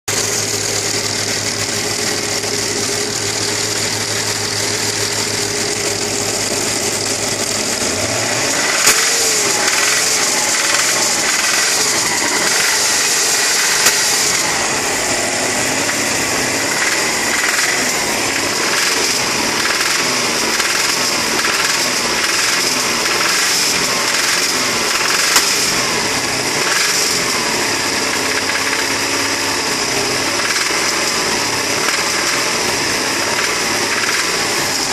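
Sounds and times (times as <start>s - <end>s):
engine knocking while revving: 0.1s - 34.9s.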